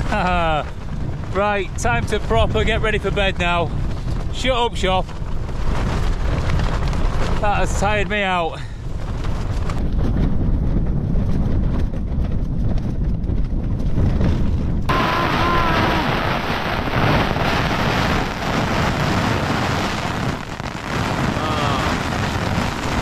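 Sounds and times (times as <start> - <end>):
hail hammering tent fabric: 0.0 - 23.0
storm wind buffeting a tent: 0.0 - 23.0.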